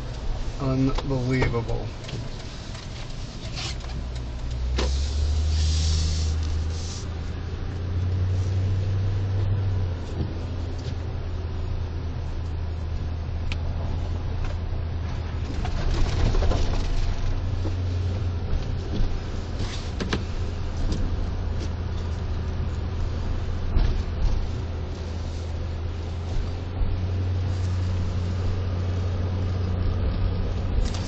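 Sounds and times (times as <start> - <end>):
car cabin drone: 0.0 - 31.0.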